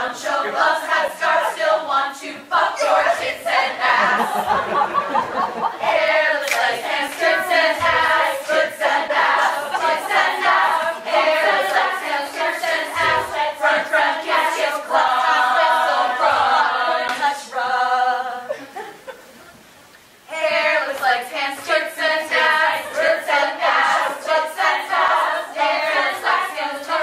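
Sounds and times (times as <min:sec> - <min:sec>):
women's choir singing: 0:00.0 - 0:18.8, 0:20.3 - 0:27.0.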